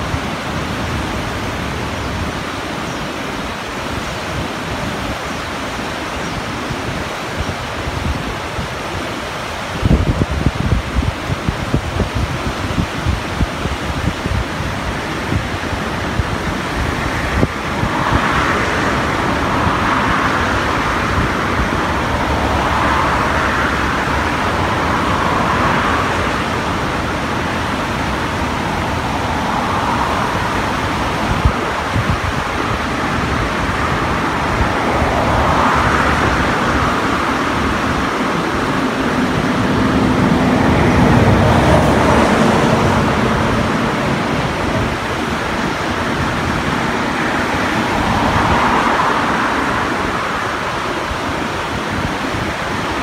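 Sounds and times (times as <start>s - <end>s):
rushing river: 0.0s - 53.0s.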